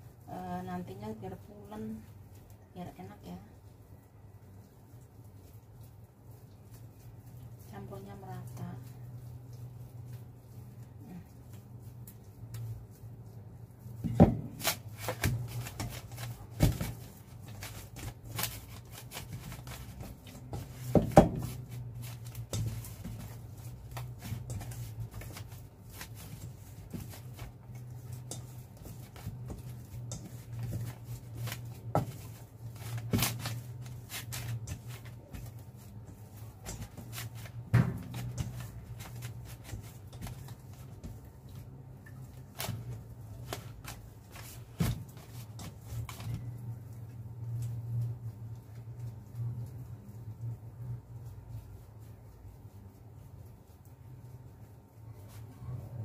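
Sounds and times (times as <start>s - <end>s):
dough kneaded by hand: 0.0s - 56.0s.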